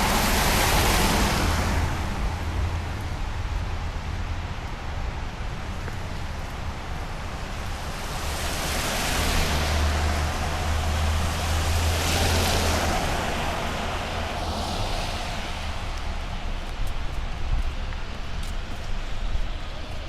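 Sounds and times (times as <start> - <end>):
tyres on wet road: 0.0 - 20.0
wind rumbling on microphone: 0.0 - 20.0.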